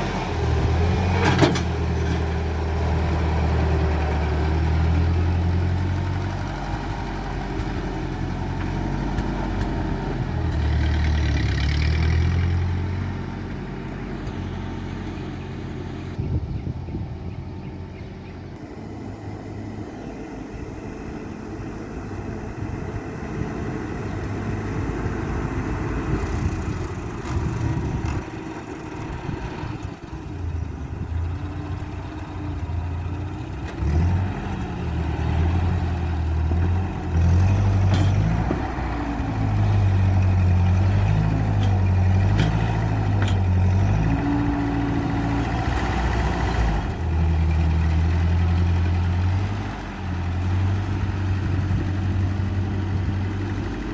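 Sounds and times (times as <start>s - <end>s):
tractor engine running under load: 0.0s - 53.9s.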